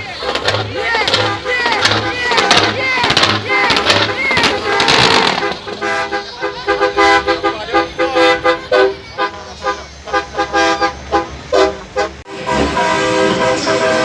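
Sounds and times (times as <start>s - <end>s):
truck air horn playing tune: 0.0s - 14.0s.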